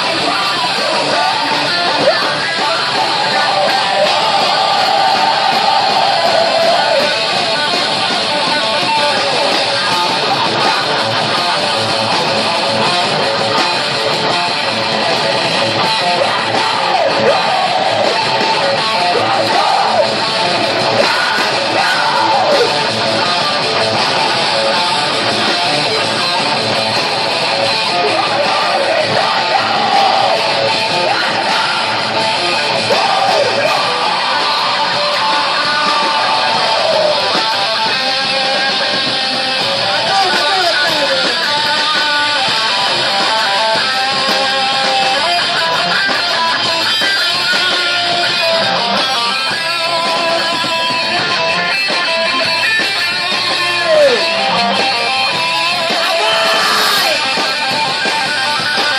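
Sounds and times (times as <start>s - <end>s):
heavy metal band playing live: 0.0s - 58.9s.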